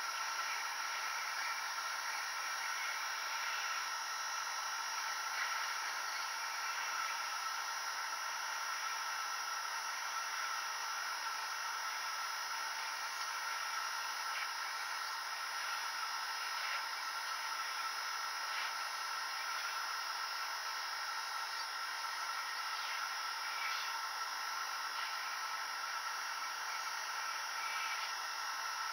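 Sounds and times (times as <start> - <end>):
hot-air gun whir and hiss: 0.0 - 28.9.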